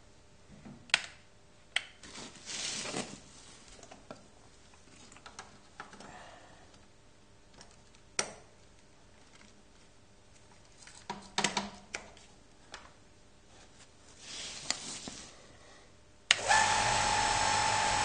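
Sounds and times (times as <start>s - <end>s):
faint room noise: 0.0s - 18.0s.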